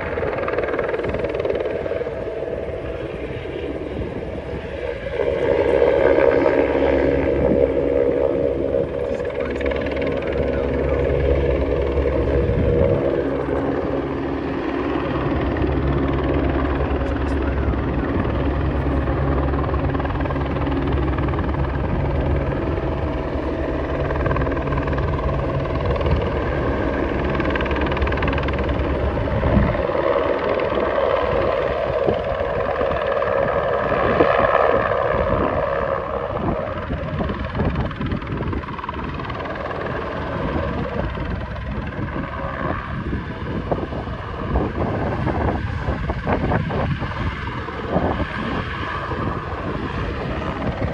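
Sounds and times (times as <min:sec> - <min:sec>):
helicopter rotor and engine drone: 0:00.0 - 0:50.9.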